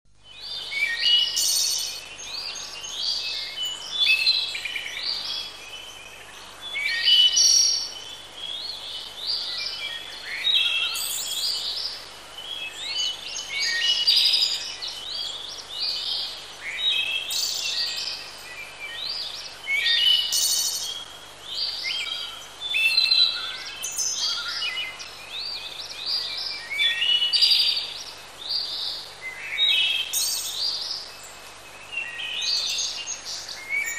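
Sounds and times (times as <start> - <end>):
faint outdoor hiss: 0.1 - 33.9
birds singing: 0.2 - 33.9.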